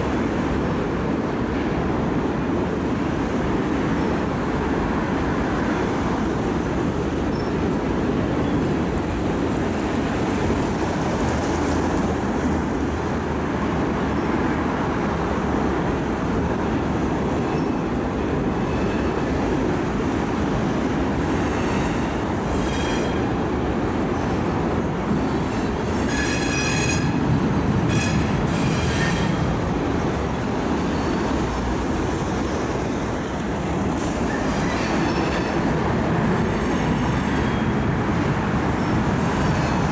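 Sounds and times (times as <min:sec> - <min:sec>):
railcar wheels on rails: 0:00.0 - 0:39.9.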